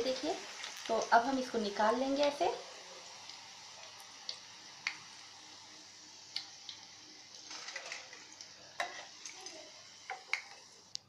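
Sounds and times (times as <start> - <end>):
hot oil sizzling in a frying pan: 0.0 - 11.0.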